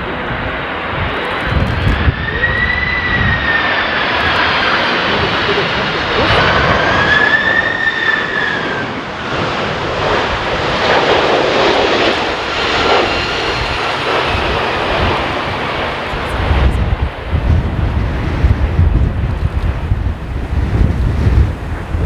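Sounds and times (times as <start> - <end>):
jet engines running: 0.0 - 22.0
wind buffeting microphone: 0.0 - 22.0.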